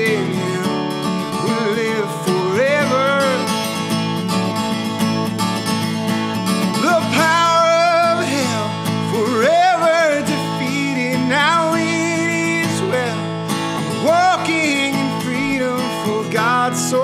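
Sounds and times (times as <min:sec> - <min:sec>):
man singing: 0:00.0 - 0:04.0, 0:06.4 - 0:17.0
strummed acoustic guitar: 0:00.0 - 0:17.0.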